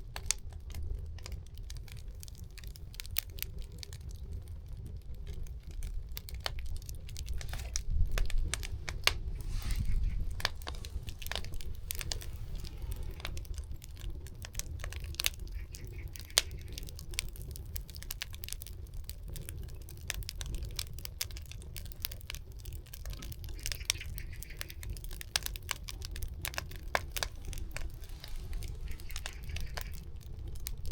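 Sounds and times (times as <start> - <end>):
low steady rumble: 0.0 - 23.0, 24.2 - 30.9
firewood crackling and popping: 0.0 - 30.9.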